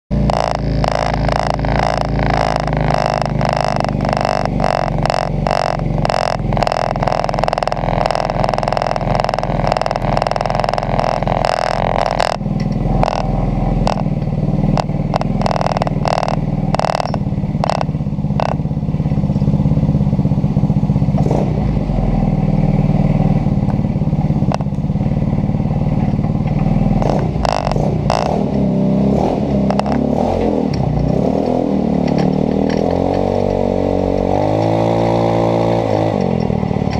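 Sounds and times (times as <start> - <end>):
buggy engine idling with rattle: 0.1 - 36.9
engine revving: 0.1 - 36.9.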